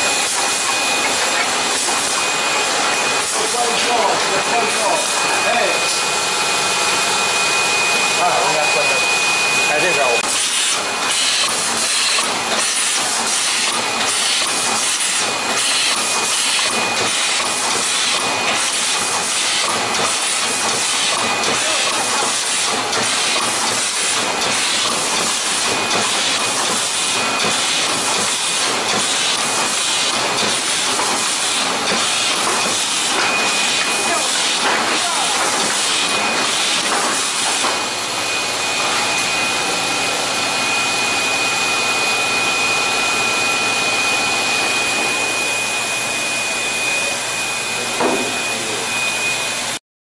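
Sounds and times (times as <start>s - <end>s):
machine hissing: 0.0s - 40.6s.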